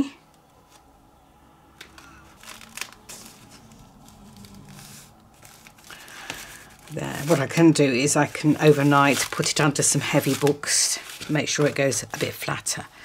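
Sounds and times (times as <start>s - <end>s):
paper crinkles: 1.8s - 13.0s
paper rustling and rubbing: 1.9s - 13.0s.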